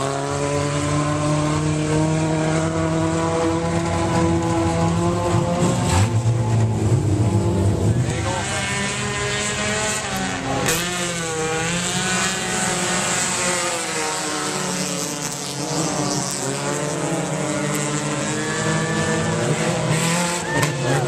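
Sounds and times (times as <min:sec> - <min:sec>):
race car engines at high revs: 0:00.0 - 0:21.0.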